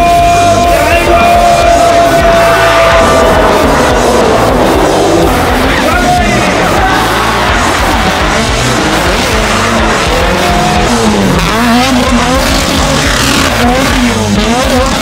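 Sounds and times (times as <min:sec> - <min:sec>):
car engines at high revs: 0:00.0 - 0:15.0.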